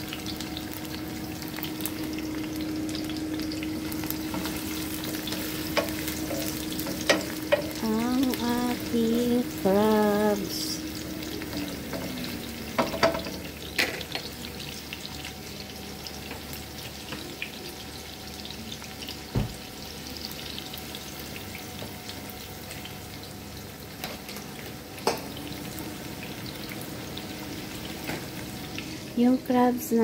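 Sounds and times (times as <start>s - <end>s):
onion sizzling in hot oil: 0.0s - 30.0s.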